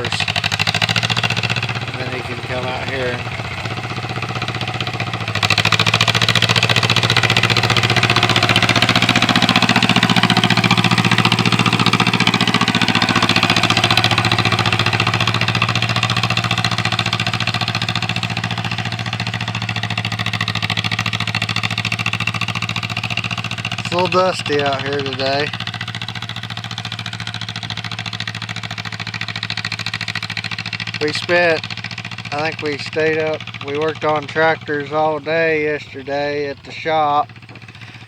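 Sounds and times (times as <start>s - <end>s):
tractor engine chugging: 0.0s - 38.0s.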